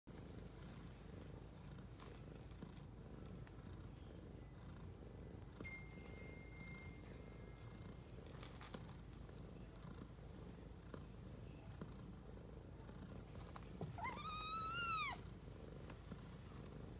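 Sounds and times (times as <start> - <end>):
cats purring: 0.1 - 16.9.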